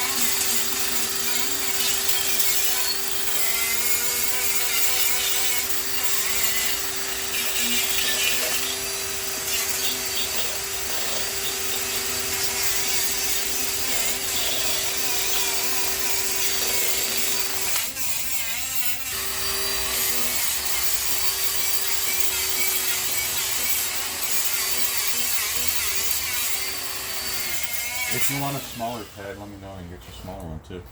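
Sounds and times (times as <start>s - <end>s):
electric sander on metal: 0.0s - 29.8s.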